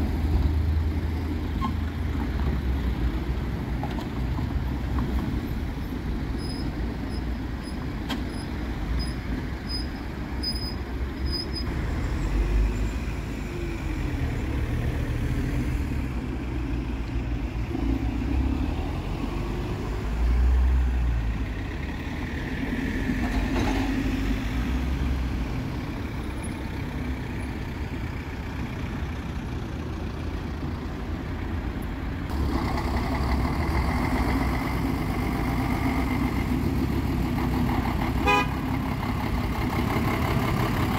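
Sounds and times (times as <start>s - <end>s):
cars and trucks driving past: 0.0s - 40.9s.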